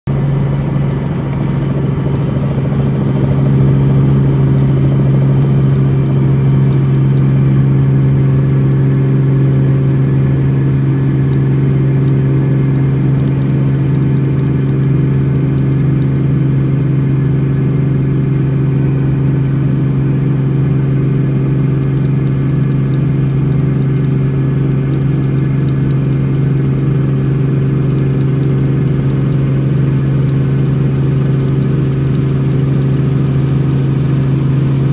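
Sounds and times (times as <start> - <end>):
helicopter engine and rotors droning: 0.1 - 34.9.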